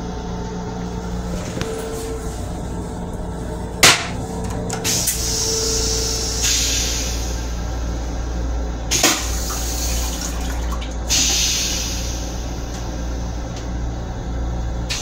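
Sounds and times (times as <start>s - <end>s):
rail car rumbling: 0.0s - 15.0s.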